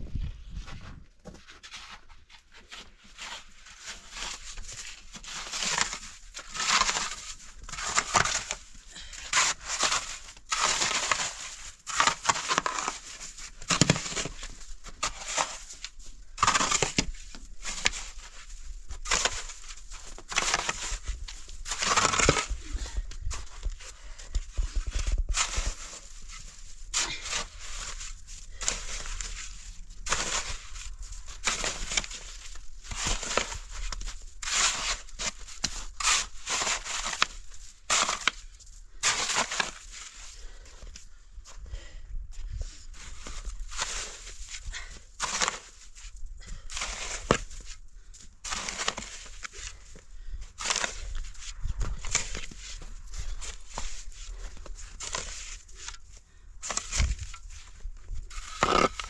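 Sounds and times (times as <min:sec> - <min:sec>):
crunching and crackling: 0:02.7 - 0:40.6, 0:43.0 - 0:59.0.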